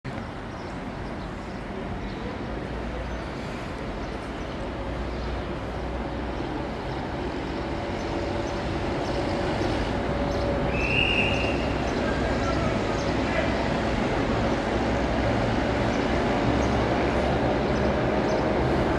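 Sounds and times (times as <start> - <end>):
train rumbling on rails: 0.1 - 18.9.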